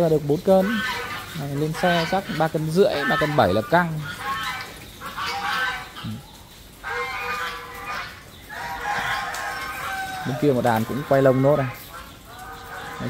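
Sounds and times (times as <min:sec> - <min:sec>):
flock of ducks calling: 0:00.0 - 0:13.0.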